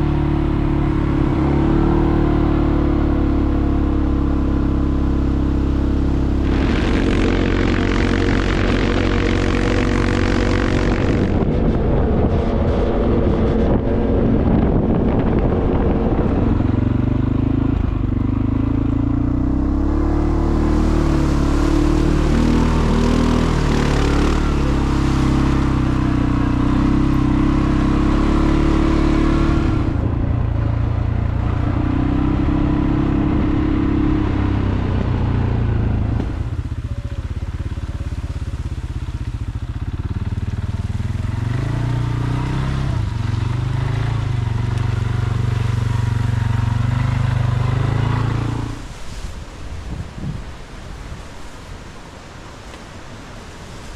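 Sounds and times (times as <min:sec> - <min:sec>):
vehicle engine running: 0:00.0 - 0:49.3.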